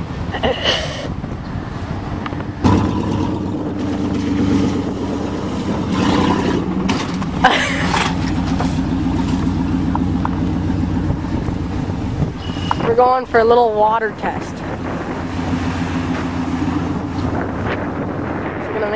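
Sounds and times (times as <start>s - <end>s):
truck engine running: 0.0s - 18.9s.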